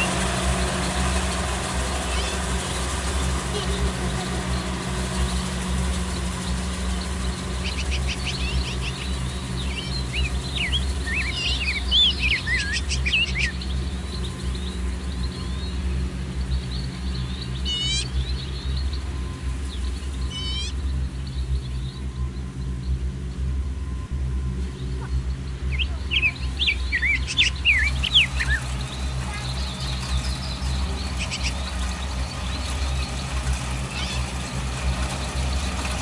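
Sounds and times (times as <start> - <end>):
falling bird calls: 0.0 - 23.5, 24.6 - 36.0
birds chirping: 0.0 - 36.0
combine harvester engine drone: 0.0 - 36.0.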